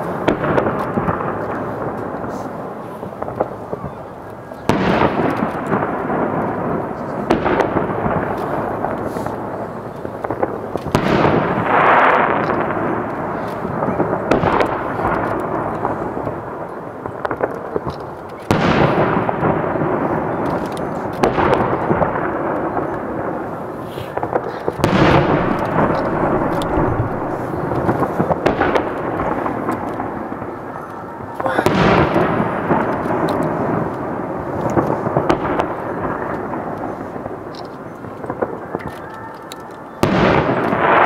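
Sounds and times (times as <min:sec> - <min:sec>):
firework booms echoing: 0:00.0 - 0:39.4, 0:40.0 - 0:41.0
fireworks crackling: 0:00.0 - 0:41.0.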